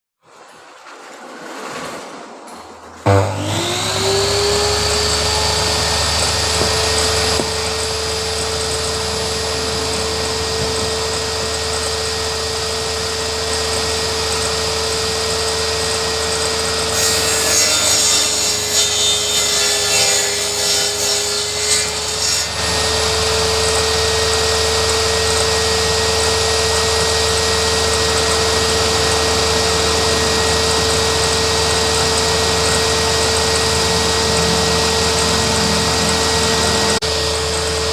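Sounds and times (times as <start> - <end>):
saw cutting through wood: 3.0 - 37.9
table saw whining: 3.0 - 37.9.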